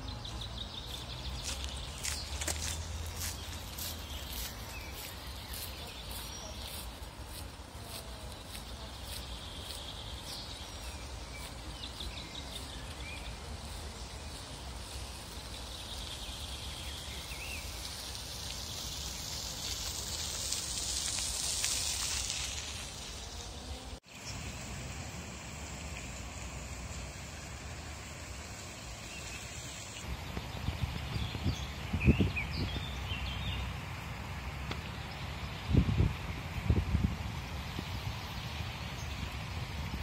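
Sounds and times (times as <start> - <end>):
small birds chirping: 0.0 - 24.7, 26.8 - 36.1
high hiss: 1.1 - 40.0.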